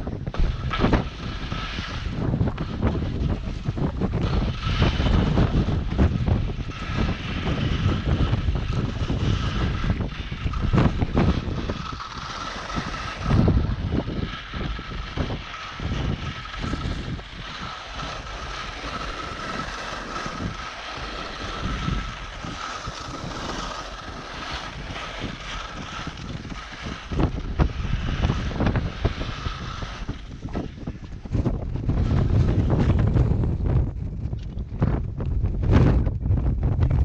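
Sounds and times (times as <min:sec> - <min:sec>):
wind buffeting microphone: 0:00.0 - 0:37.0
skis hissing over snow: 0:00.4 - 0:32.5.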